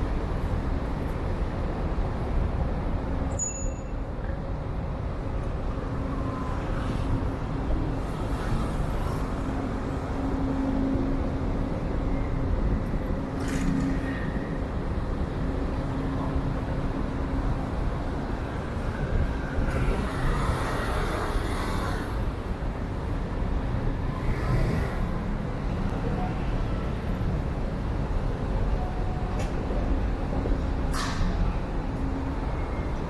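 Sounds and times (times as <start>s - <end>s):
city road traffic rumble: 0.0s - 33.0s.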